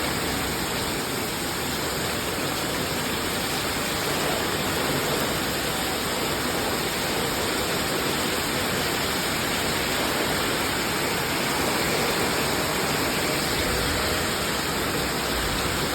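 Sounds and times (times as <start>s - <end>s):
rain pouring in storm: 0.0s - 15.9s.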